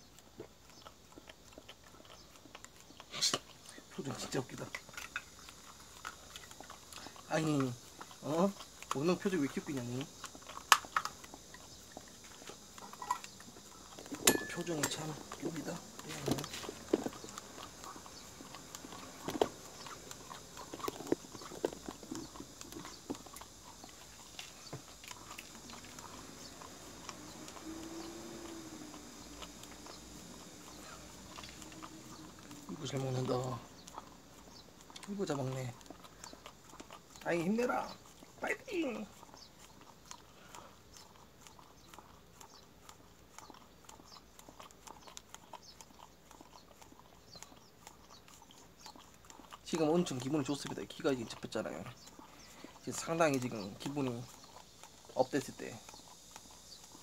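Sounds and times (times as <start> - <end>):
dog licking from plastic cup: 0.0 - 57.0.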